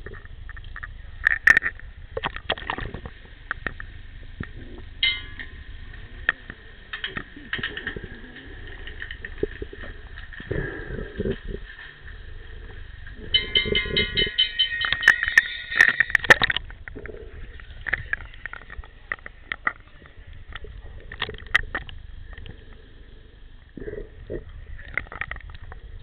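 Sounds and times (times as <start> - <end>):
underwater clicks and knocks: 0.0 - 12.3, 13.1 - 22.6, 24.3 - 26.0.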